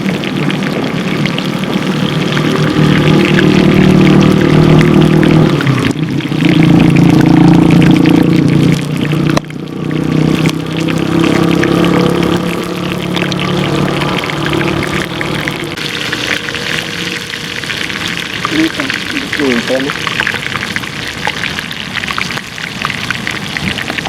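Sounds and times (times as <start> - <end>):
hot oil sizzling and crackling: 0.0 - 24.0.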